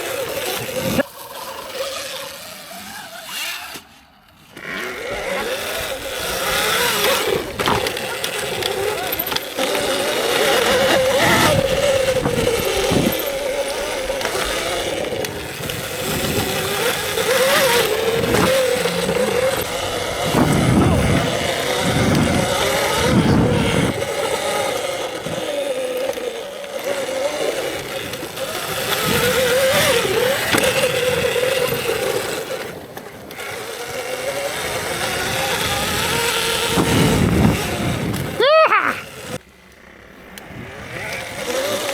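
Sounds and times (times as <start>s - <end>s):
electric dirt bike motor whining: 0.0s - 41.9s.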